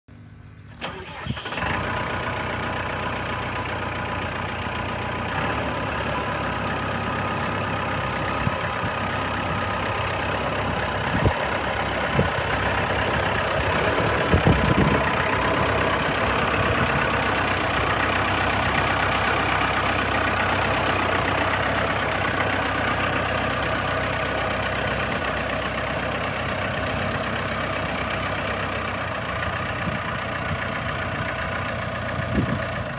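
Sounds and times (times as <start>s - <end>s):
tractor diesel engine idling: 0.2s - 32.9s.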